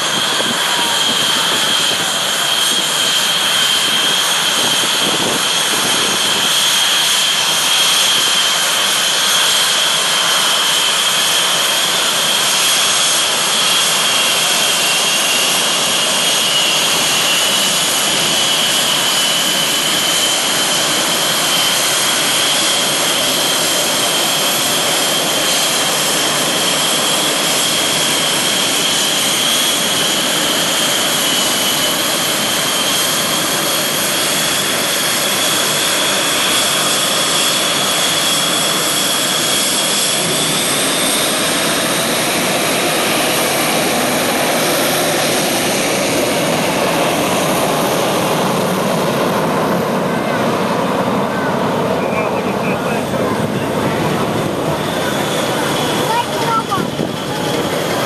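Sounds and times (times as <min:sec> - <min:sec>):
jet engine whine: 0:00.0 - 0:58.0
jet exhaust rush: 0:00.0 - 0:58.0.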